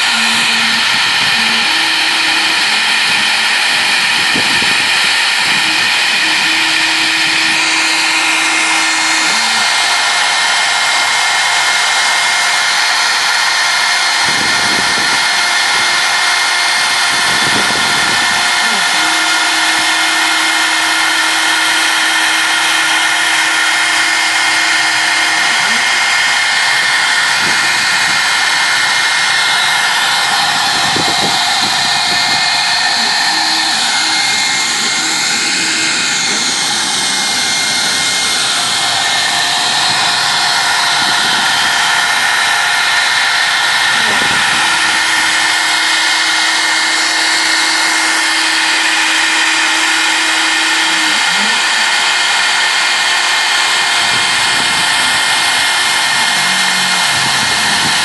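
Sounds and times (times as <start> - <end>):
low steady hum: 0.0 - 58.0
router spindle high-pitched whine: 0.0 - 58.0.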